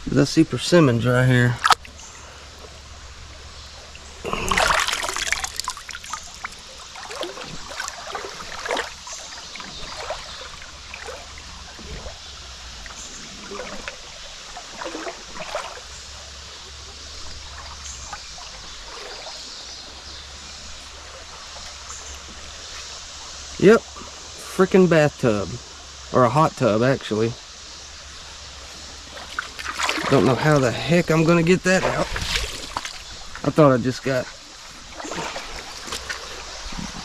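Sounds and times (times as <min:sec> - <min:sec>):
creek water trickling: 0:00.1 - 0:37.0.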